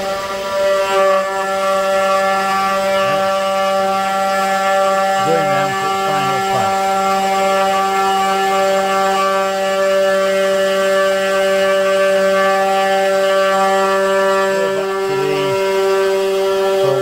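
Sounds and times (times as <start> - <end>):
lower shifting tones: 0.0 - 17.0
router spindle whining: 0.0 - 17.0.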